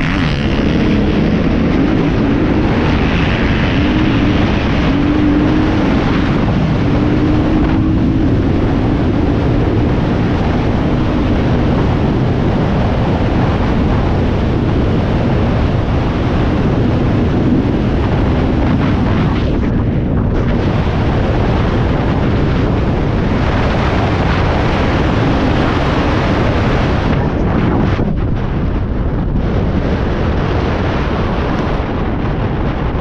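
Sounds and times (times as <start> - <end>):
dirt bike engine under throttle: 0.0 - 32.9
wind noise on microphone: 0.0 - 33.0.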